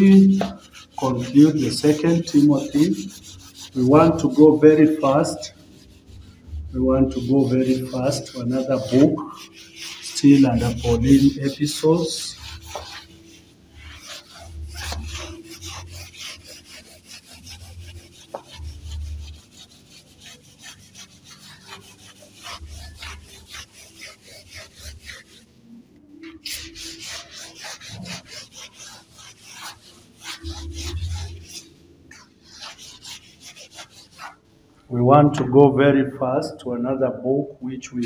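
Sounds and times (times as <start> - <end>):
eraser scrubbing chalkboard: 0.0 - 35.5.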